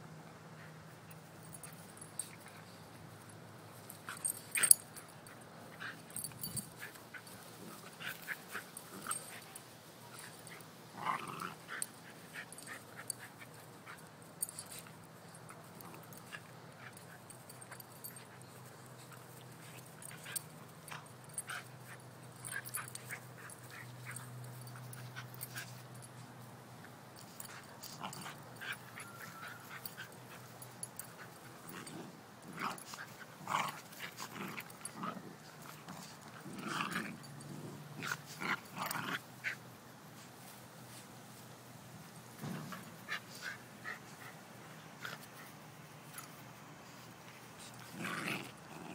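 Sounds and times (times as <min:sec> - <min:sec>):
dogs play-fighting: 0:00.4 - 0:48.9.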